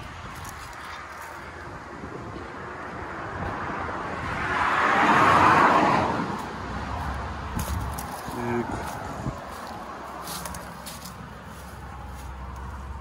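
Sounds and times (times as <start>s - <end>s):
road vehicle passing at speed: 0.0s - 13.0s.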